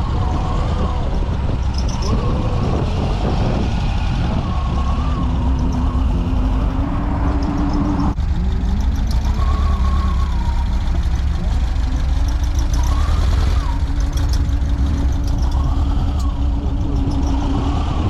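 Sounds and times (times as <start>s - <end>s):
faint voices: 0.0s - 18.0s
vehicle engine rumbling: 0.0s - 18.0s.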